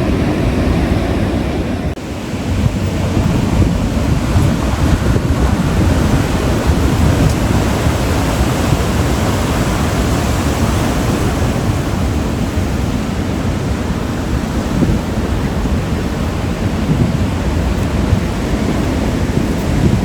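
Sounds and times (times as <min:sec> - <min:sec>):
surf washing against rocks: 0:00.0 - 0:20.0
wind rumble on microphone: 0:00.0 - 0:20.0.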